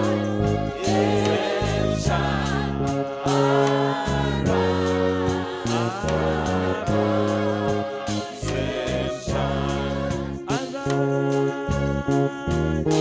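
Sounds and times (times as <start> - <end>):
choir and congregation singing: 0.0 - 11.8
keyboard and bass backing: 0.0 - 13.0.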